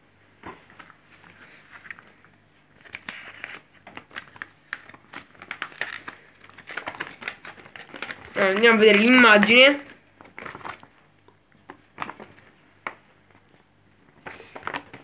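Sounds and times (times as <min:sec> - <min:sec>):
foil and paper crinkling: 0:00.8 - 0:11.0, 0:11.7 - 0:15.0.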